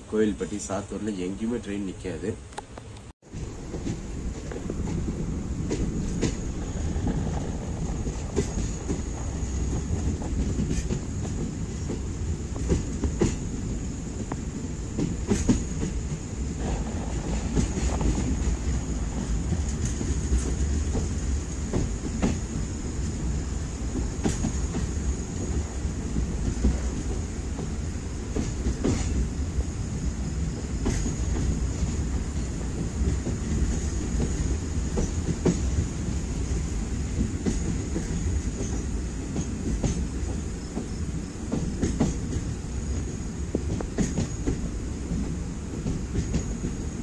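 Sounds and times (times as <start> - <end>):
train wheels rumbling on rails: 0.0 - 47.0
track clacks: 2.5 - 47.0.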